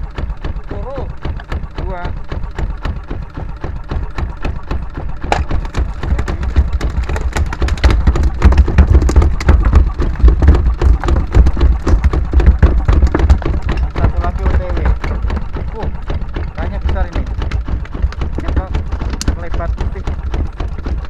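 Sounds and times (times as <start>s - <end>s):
diesel boat engine knocking: 0.0s - 21.0s.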